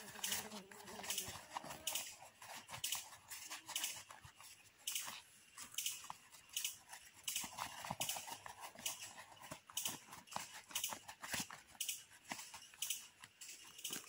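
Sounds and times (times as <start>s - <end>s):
work glove rustling: 0.0s - 14.0s.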